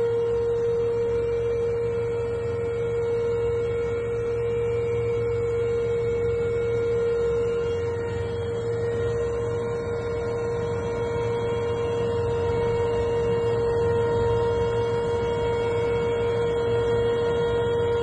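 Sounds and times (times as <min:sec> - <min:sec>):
helicopter high whine: 0:00.0 - 0:18.0
helicopter low rumble: 0:00.0 - 0:18.0.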